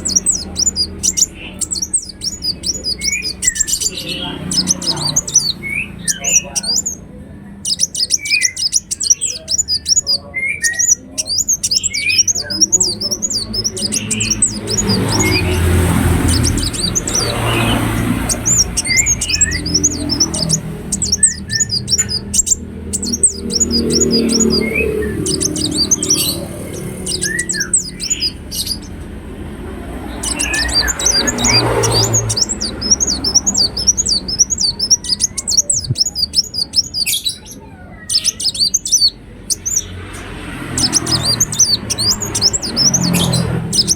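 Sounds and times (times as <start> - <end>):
bird twittering trills: 0.0 - 43.9.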